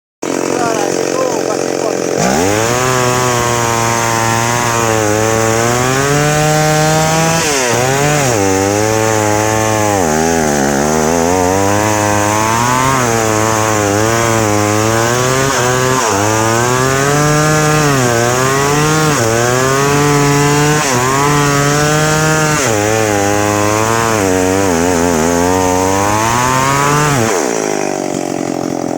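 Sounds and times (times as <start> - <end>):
chainsaw cutting through wood: 0.2 - 28.9.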